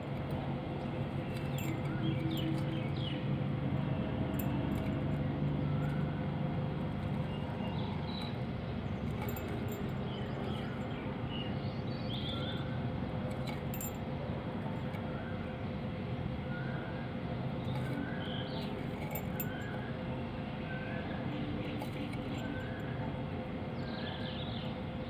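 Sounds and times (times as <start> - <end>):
low background rumble and hum: 0.0 - 25.0.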